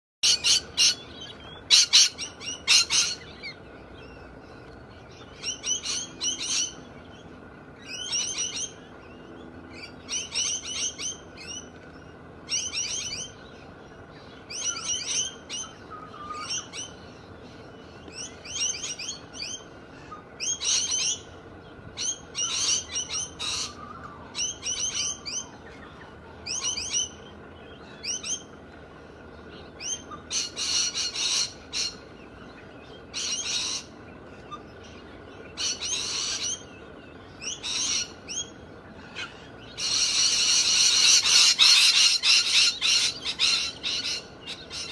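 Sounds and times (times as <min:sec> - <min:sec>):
galahs calling: 0:00.2 - 0:04.1, 0:09.6 - 0:44.9.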